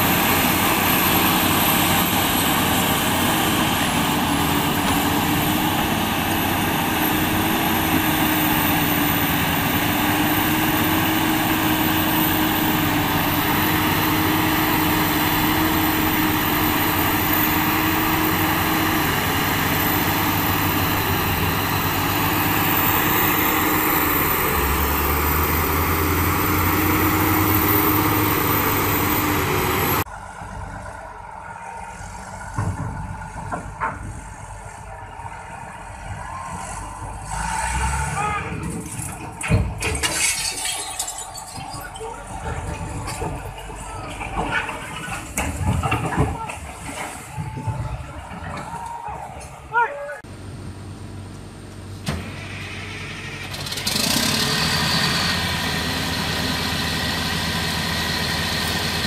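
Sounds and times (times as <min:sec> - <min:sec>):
bulldozer diesel engines running: 0:00.0 - 0:59.0.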